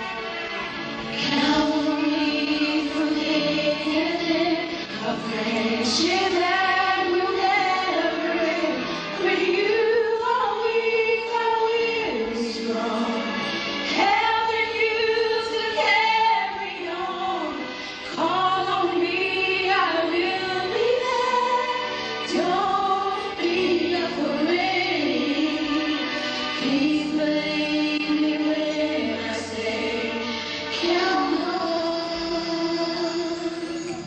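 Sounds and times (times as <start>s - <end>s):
choir singing: 1.2s - 34.0s.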